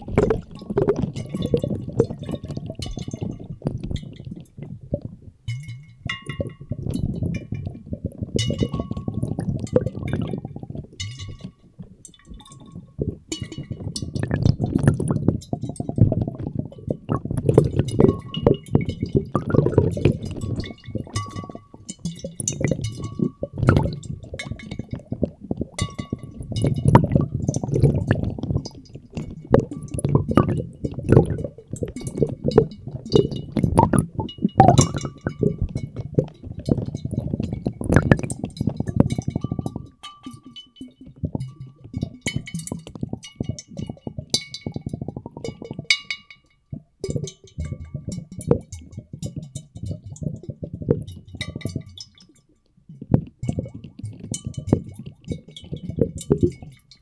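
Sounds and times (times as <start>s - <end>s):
underwater gurgling and sloshing: 0.0s - 57.0s
water swished in glass bottles: 0.0s - 57.0s.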